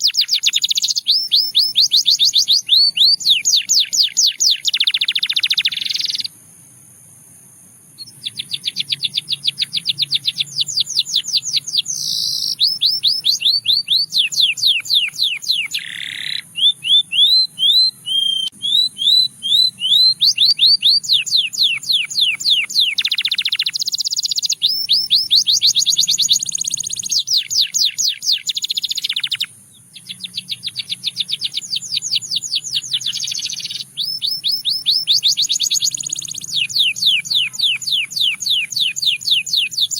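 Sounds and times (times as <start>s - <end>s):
canary singing trills: 0.0s - 6.4s, 8.0s - 39.9s.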